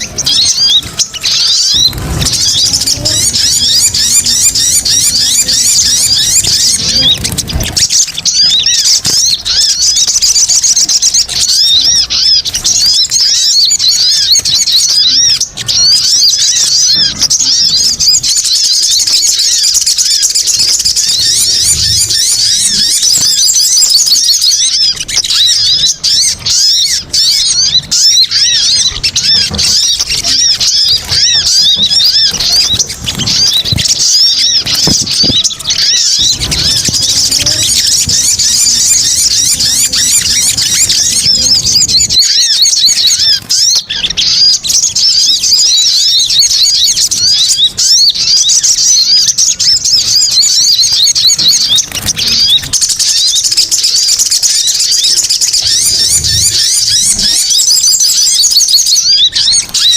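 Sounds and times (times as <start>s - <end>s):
high-pitched bird chirps: 0.0s - 59.9s.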